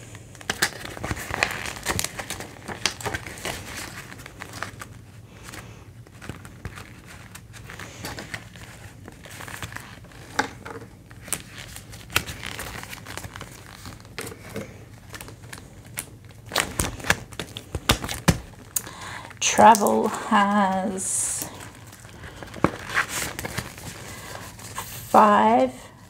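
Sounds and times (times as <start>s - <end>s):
plastic pockets crinkling: 0.0s - 25.1s.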